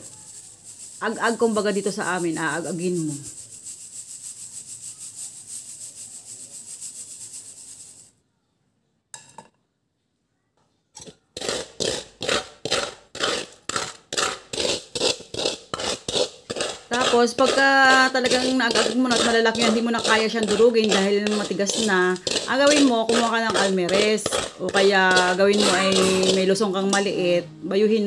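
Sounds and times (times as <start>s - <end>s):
granules rubbed across wire sieve: 0.0s - 8.1s, 11.4s - 27.1s.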